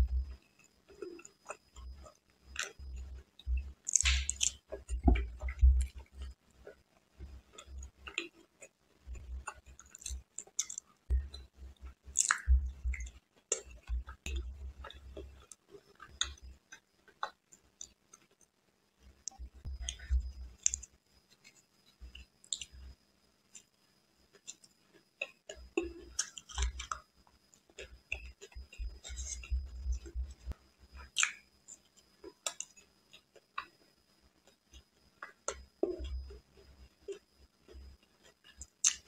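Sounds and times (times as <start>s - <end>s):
chewing with mouth clicks: 0.0s - 18.5s, 19.3s - 22.8s, 24.3s - 33.8s, 34.4s - 39.0s.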